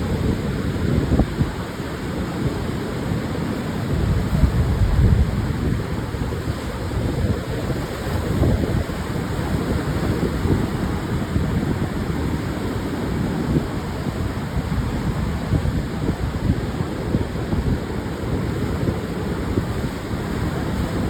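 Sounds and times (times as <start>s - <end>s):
surf washing on sandy beach: 0.0s - 21.0s
wind buffeting microphone: 0.0s - 21.0s.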